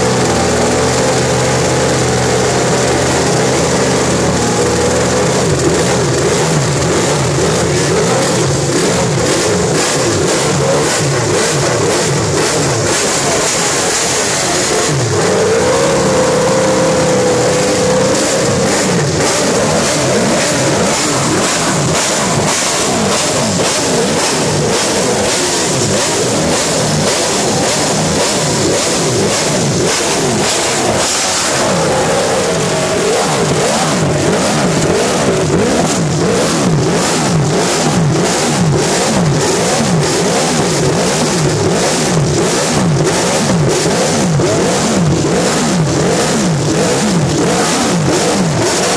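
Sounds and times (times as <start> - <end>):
racing engine throttle blips: 0.0 - 48.9.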